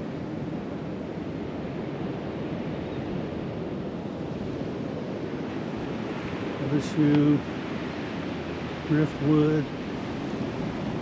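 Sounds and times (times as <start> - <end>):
surf on a sandy beach: 0.0 - 11.0
wind: 0.0 - 11.0.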